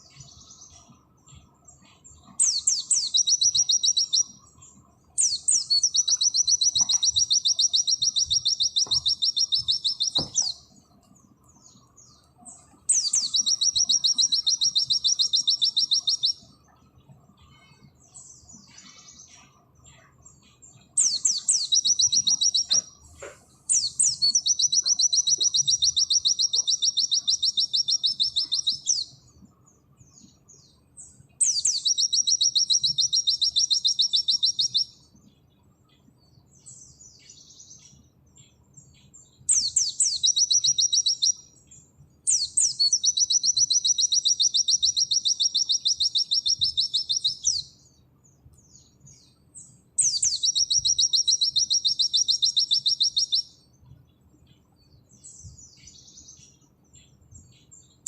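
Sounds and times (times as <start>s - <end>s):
soft bird chirps: 0.0s - 58.0s.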